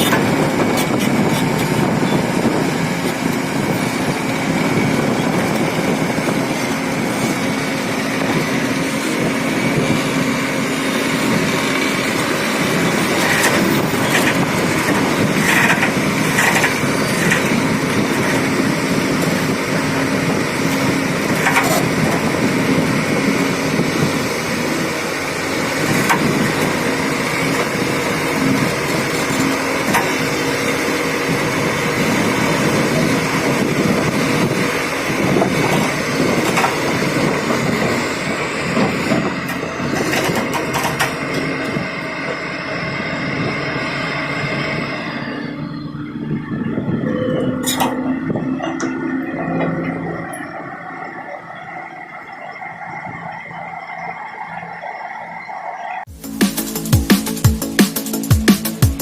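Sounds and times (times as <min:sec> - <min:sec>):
heavy machine engine hum: 0:00.0 - 0:59.0.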